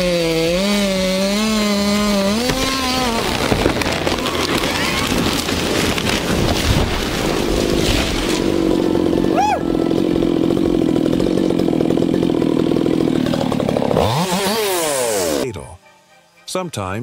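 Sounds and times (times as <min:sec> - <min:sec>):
wood splitting and branches snapping: 0:00.0 - 0:09.2, 0:09.9 - 0:15.4
chainsaw cutting: 0:00.0 - 0:15.5.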